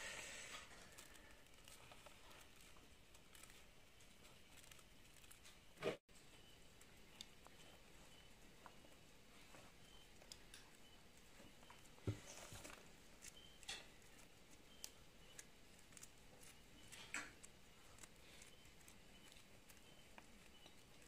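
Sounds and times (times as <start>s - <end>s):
faint clicks and rustles: 0.0s - 21.0s.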